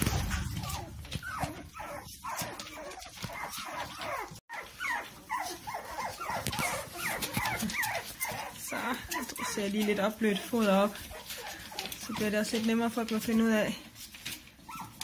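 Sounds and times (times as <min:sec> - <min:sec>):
puppies whimpering and yipping: 0:00.0 - 0:13.0, 0:14.1 - 0:15.0.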